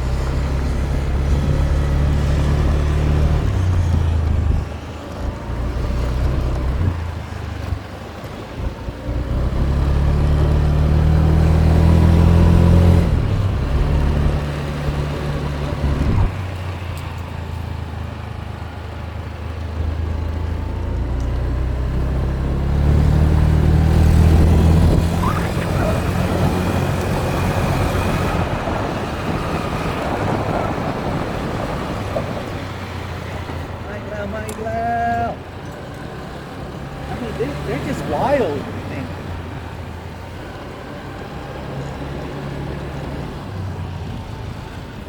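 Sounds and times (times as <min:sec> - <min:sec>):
road and wind noise: 0:00.0 - 0:45.0
small motorbike engine: 0:00.0 - 0:45.0.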